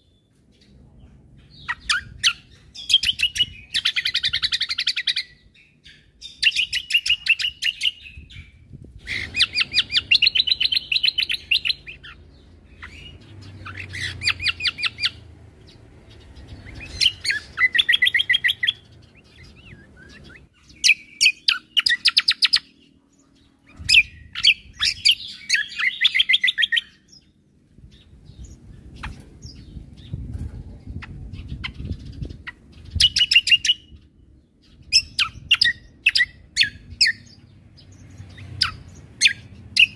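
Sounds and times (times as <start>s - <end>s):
songbird chirping trills: 0.0s - 39.9s.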